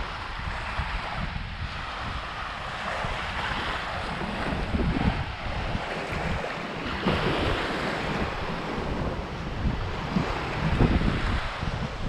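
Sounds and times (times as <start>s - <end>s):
waves washing ashore: 0.0s - 12.0s
wind buffeting microphone: 0.0s - 12.0s.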